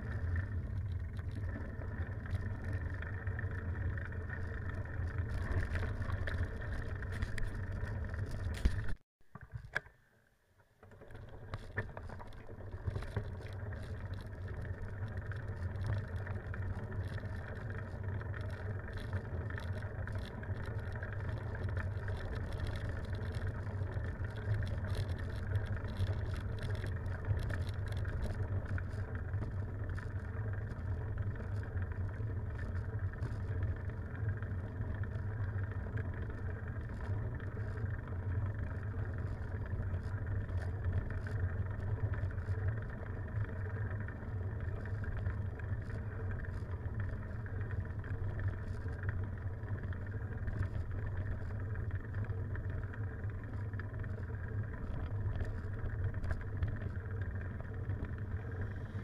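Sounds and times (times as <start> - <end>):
wind and road rumble: 0.0 - 9.9, 10.8 - 59.0.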